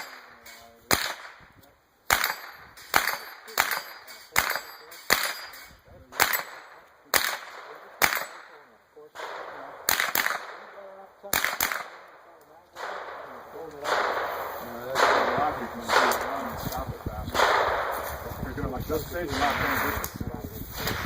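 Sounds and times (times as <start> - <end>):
shotgun shots with echo: 0.0 - 1.5, 2.1 - 18.4, 19.2 - 21.0.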